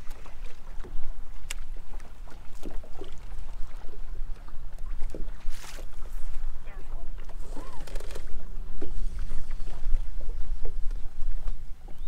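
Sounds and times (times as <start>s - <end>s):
waves lapping against boat hull: 0.0s - 12.0s
wind rumbling on microphone: 0.0s - 12.0s.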